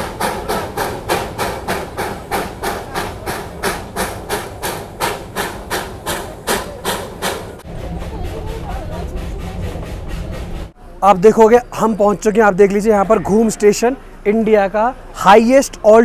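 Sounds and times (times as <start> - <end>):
steam locomotive chuffing: 0.0 - 14.1.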